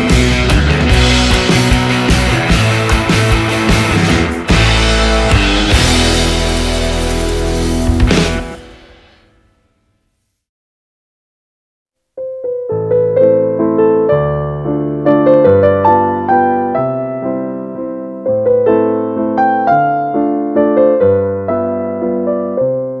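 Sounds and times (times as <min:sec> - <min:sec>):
electric piano music: 0:00.0 - 0:09.2, 0:12.2 - 0:23.0.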